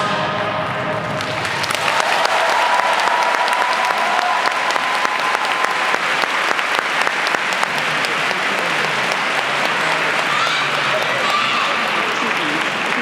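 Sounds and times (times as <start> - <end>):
crowd applauding: 1.1 - 13.0.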